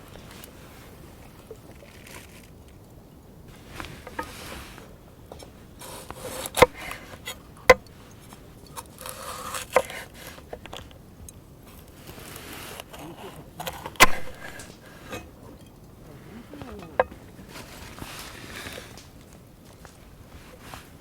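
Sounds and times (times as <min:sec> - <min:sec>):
rustling and scraping: 0:00.0 - 0:21.0.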